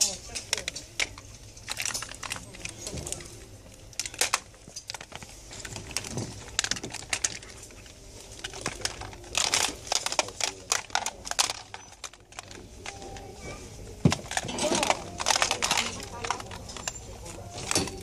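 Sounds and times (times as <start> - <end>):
plastic controllers clacking: 0.0 - 18.0.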